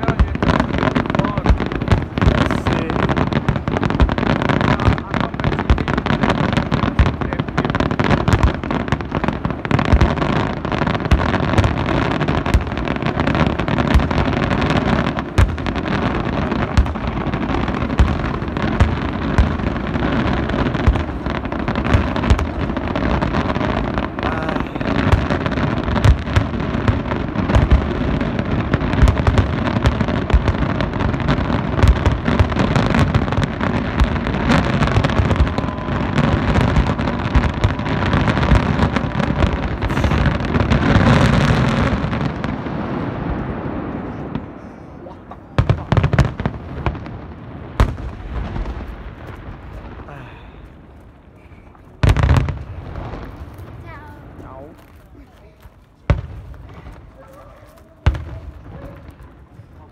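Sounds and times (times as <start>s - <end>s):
crackling: 0.0s - 59.9s.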